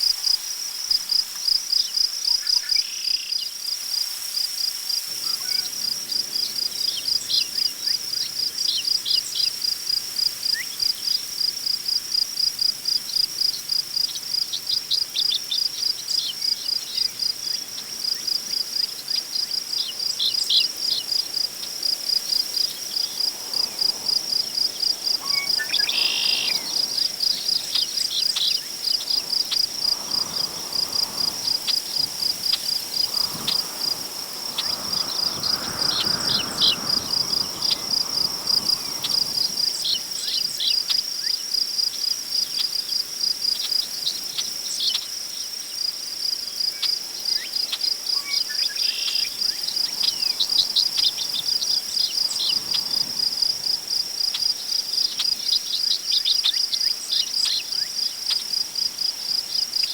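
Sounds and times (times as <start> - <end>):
crickets chirping: 0.0 - 59.9
wind rustling grass: 3.9 - 59.9.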